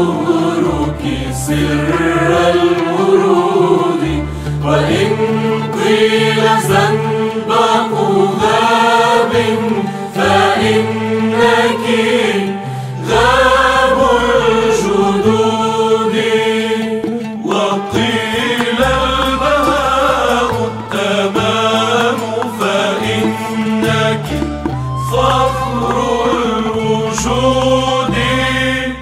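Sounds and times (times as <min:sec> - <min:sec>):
instrumental accompaniment: 0:00.0 - 0:29.0
voices singing a hymn: 0:00.0 - 0:29.0.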